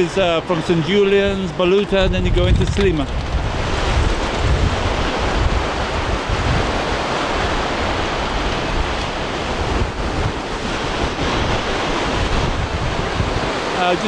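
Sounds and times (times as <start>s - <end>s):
surf washing over sand: 0.0s - 14.0s
wind buffeting microphone: 0.0s - 14.0s.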